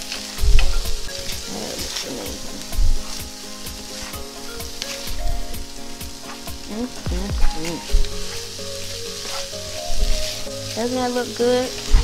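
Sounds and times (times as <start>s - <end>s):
food sizzling in a frying pan: 0.0s - 12.0s
spatula scraping and tapping pan: 0.0s - 12.0s.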